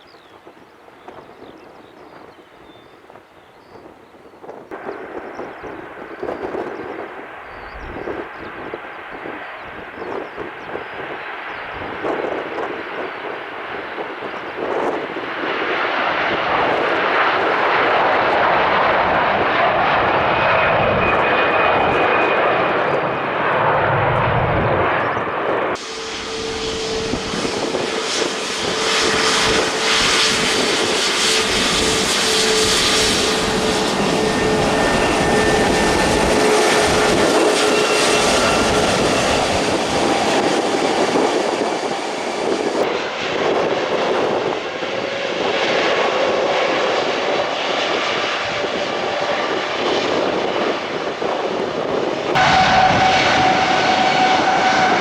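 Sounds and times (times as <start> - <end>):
jet engine whine: 0.0 - 55.0
jet engines roaring: 4.1 - 55.0.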